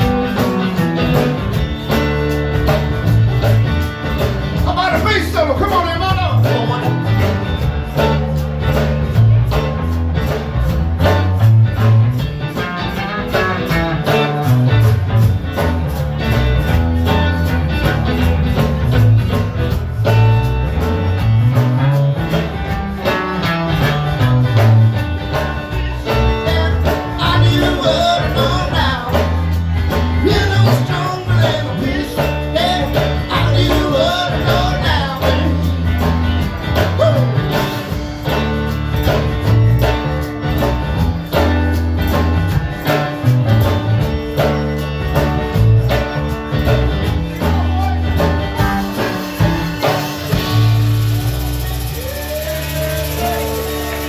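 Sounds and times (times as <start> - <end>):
bluesy rock band playing: 0.0 - 54.0
walking bass line: 0.0 - 54.0.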